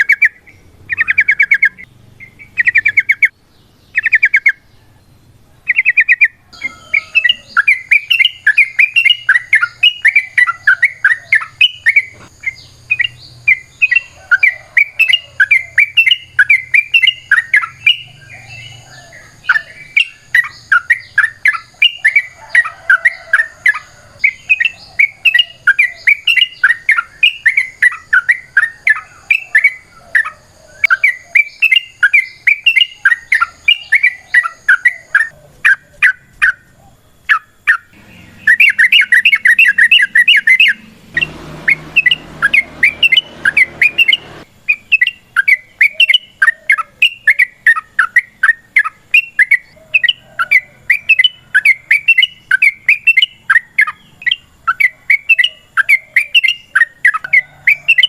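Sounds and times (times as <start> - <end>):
bird singing rapid chattering notes: 0.0 - 58.0.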